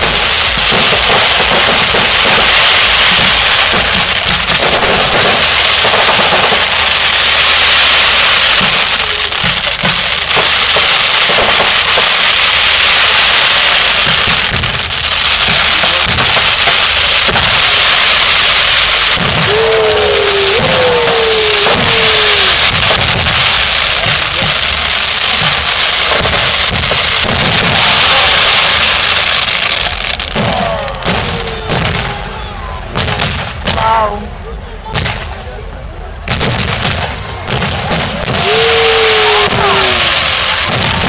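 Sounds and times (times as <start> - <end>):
crowd voices calling out: 0.0 - 41.0
fireworks crackling and banging: 0.0 - 41.0.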